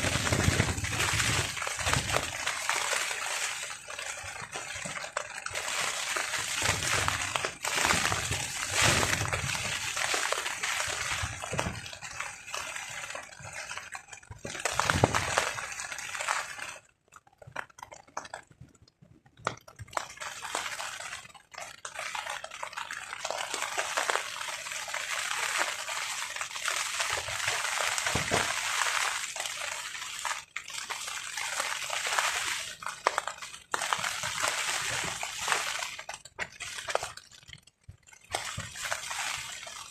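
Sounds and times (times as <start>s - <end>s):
rain falling on a tarp: 0.0s - 39.9s.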